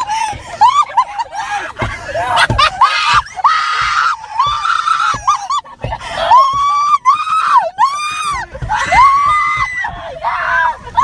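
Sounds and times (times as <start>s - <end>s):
people screaming: 0.0s - 11.0s.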